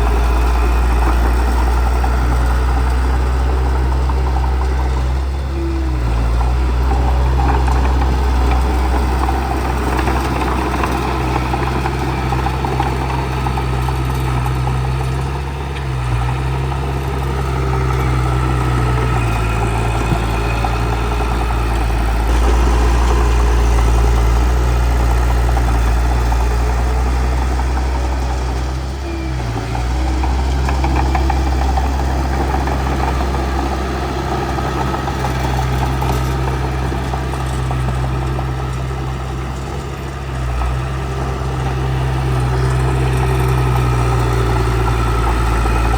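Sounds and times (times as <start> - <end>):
bulldozer diesel engine droning: 0.0 - 45.9.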